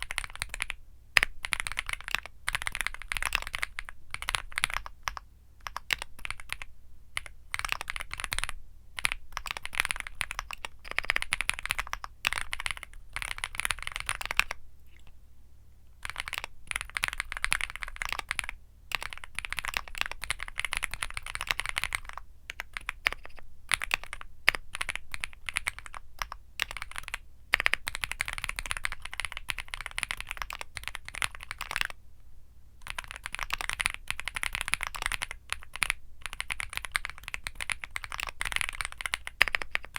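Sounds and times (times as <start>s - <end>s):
mechanical keyboard typing: 0.0s - 15.1s, 16.0s - 32.0s, 32.8s - 39.9s.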